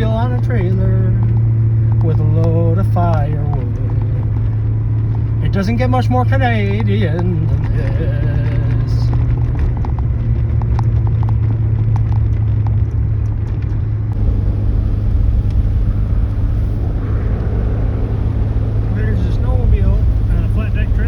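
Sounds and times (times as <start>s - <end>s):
pickup truck engine drone: 0.0s - 21.0s.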